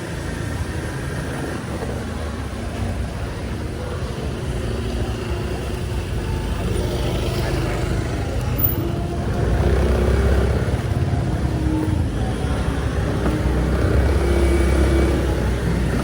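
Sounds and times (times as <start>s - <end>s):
passing vehicle engines: 0.0s - 16.0s.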